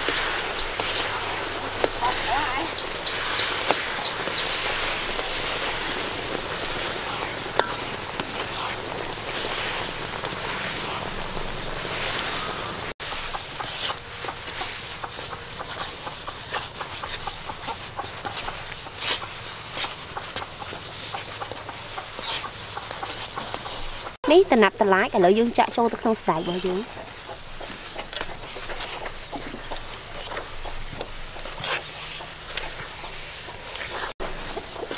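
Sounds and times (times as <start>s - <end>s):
paste sizzling in oil: 0.0s - 34.9s.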